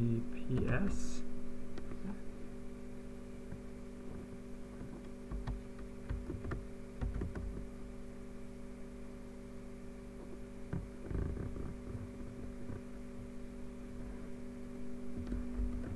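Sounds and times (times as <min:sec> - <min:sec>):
electrical hum: 0:00.0 - 0:15.9.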